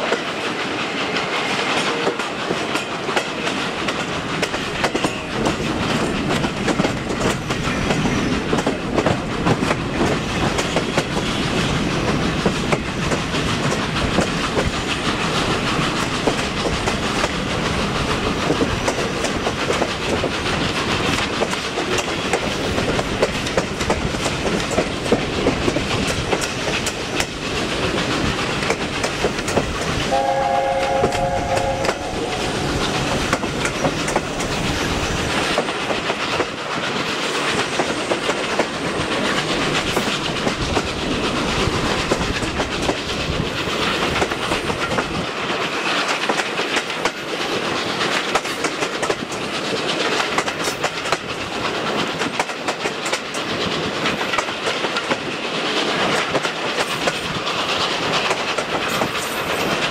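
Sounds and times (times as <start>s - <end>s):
train wheels clacking on rail joints: 0.0s - 59.9s.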